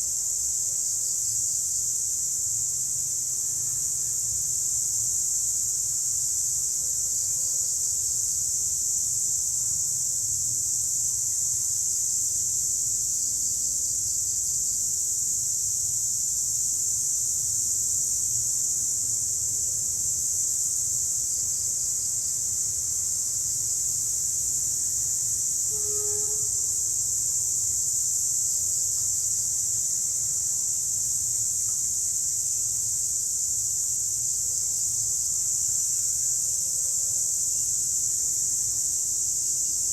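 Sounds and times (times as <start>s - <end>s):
cicadas buzzing: 0.1s - 39.9s.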